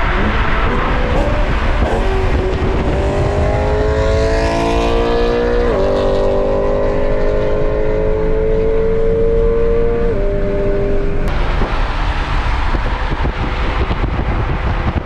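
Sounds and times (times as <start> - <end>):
car engine accelerating: 0.0 - 15.0
road and tyre noise: 0.0 - 15.0.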